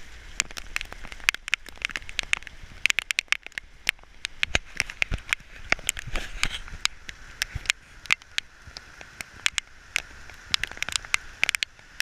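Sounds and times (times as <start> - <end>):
pouring rain hiss: 0.0 - 12.0
raindrops tapping hard surface: 0.0 - 12.0.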